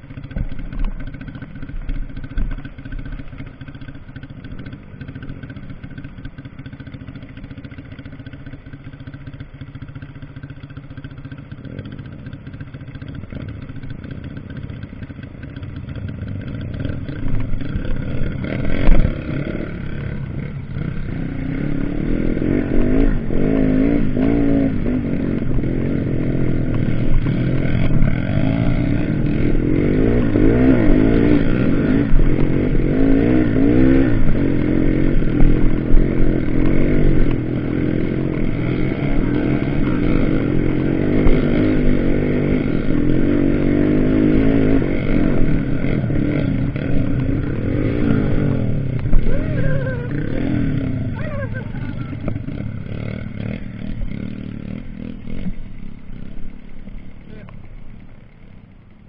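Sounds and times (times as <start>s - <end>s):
motorcycles revving: 0.0s - 59.0s.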